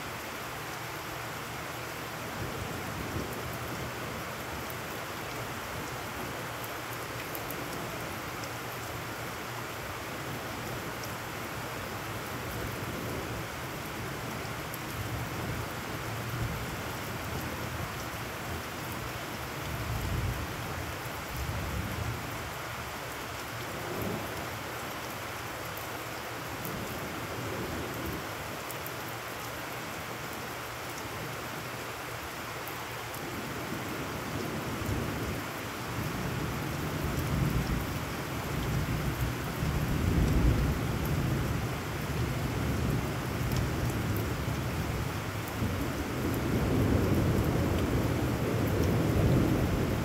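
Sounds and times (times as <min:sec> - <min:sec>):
heavy rain on puddled ground: 0:00.0 - 0:50.0.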